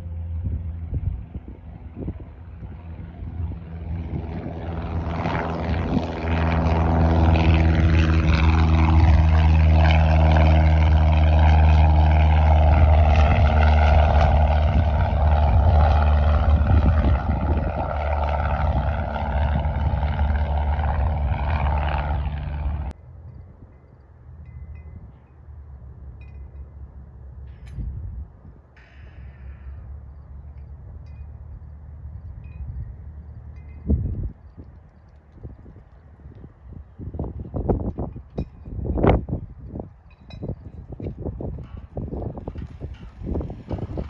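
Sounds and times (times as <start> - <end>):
propeller airplane engine: 0.0 - 44.0.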